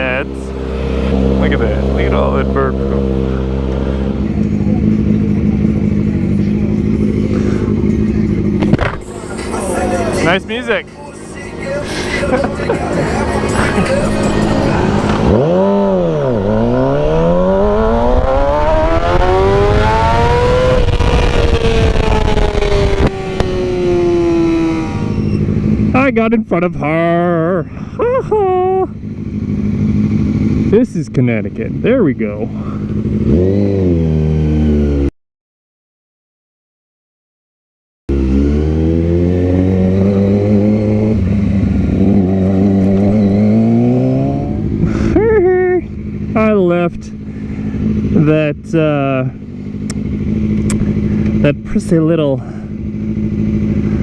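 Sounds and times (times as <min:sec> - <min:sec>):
motorcycle engine revving: 0:00.0 - 0:35.1, 0:38.1 - 0:54.0.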